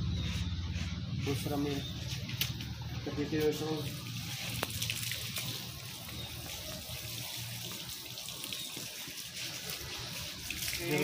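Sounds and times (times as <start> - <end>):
hose water spraying and splashing: 0.0 - 11.0.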